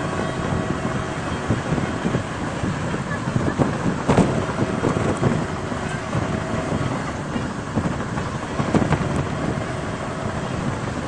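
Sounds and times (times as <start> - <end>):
train wheels rumbling on track: 0.0 - 11.0
wind buffeting microphone: 0.0 - 11.0.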